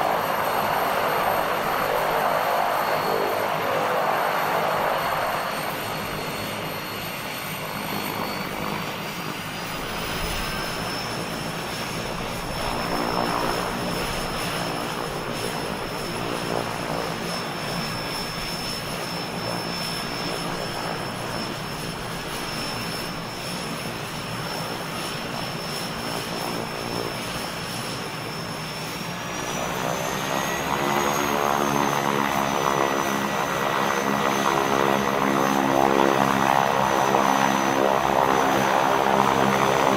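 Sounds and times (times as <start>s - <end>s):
biplane engine idling and revving: 0.0s - 39.9s.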